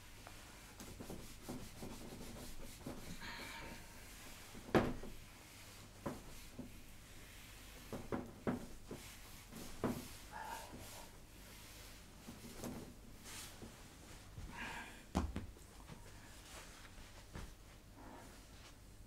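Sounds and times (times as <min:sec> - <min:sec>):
rubbing and handling noise: 0:00.1 - 0:03.2, 0:03.8 - 0:14.5, 0:15.4 - 0:19.0.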